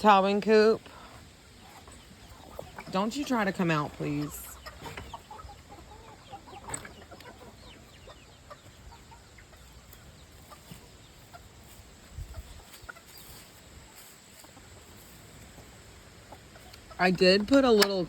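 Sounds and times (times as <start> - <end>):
chickens clucking faintly: 0.8 - 18.0.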